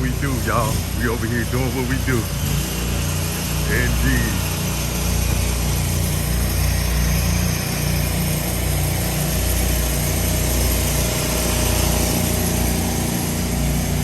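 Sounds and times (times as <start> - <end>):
gas engine running under load: 0.0 - 14.0.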